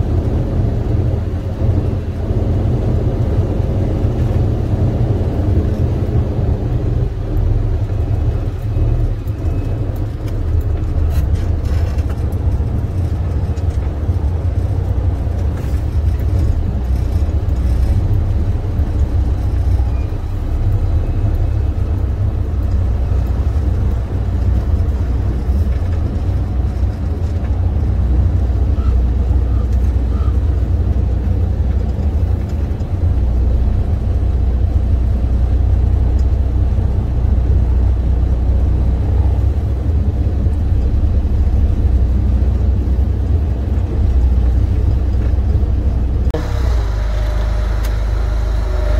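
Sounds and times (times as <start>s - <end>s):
diesel truck engine rumbling: 0.0s - 48.9s.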